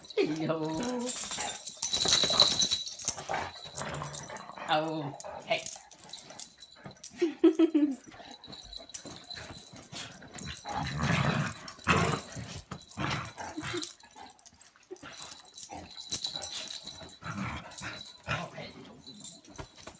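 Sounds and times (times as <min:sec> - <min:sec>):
dogs growling: 0:00.1 - 0:06.8, 0:08.1 - 0:19.5.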